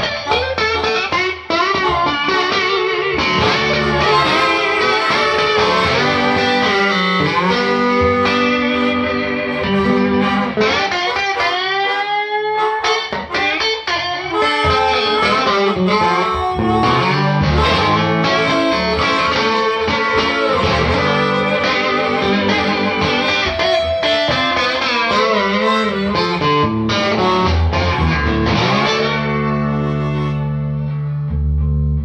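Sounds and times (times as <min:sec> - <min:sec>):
blues electric guitar: 0:00.0 - 0:32.0.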